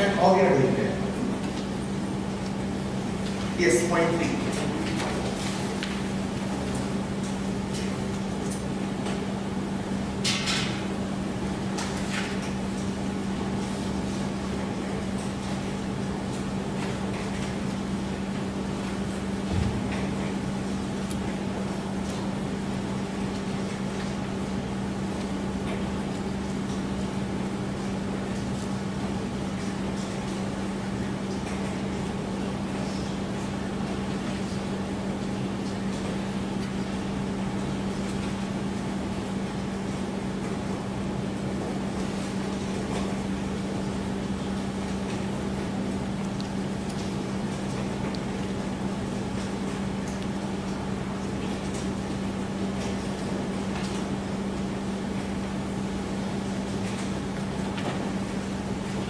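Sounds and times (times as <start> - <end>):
room hum and hiss: 0.0 - 59.0.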